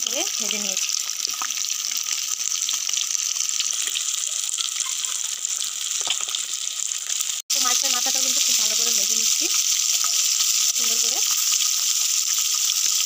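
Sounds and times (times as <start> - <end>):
fish sizzling in oil: 0.0 - 13.0
oil crackling: 0.0 - 13.0.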